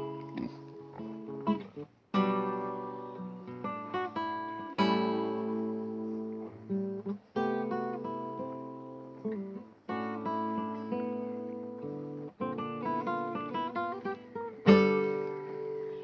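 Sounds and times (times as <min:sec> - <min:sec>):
acoustic guitar strumming and picking: 0:00.0 - 0:16.0.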